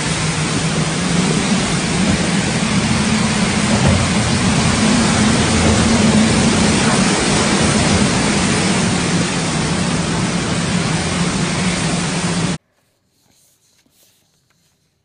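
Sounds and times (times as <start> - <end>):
heavy rain: 0.0 - 12.6
storm wind: 0.0 - 12.6
wind noise on microphone: 0.0 - 12.6.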